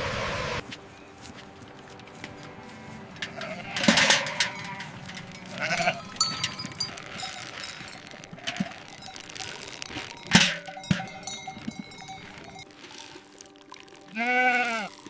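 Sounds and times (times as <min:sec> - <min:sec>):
livestock calling: 0:00.8 - 0:13.2, 0:14.1 - 0:15.0.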